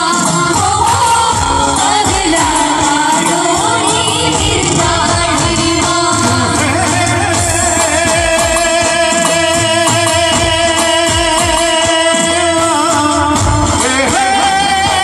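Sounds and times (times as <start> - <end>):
band playing through loudspeakers: 0.0 - 15.0
driving drum rhythm: 0.0 - 15.0
person singing: 0.0 - 15.0.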